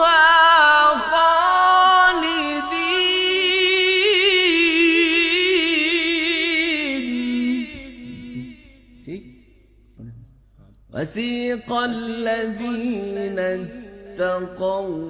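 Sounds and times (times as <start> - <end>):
person chanting melodically: 0.0 - 10.3, 11.0 - 15.0.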